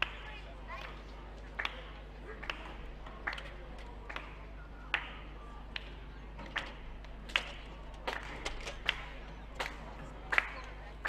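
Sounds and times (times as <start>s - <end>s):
slow rhythmic handclapping: 0.0s - 11.0s.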